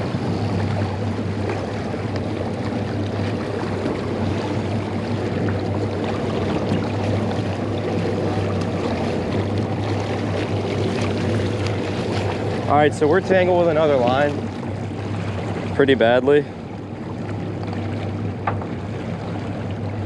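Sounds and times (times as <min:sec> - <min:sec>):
boat engine humming: 0:00.0 - 0:20.0
rushing water: 0:00.0 - 0:20.0
wind: 0:00.0 - 0:20.0.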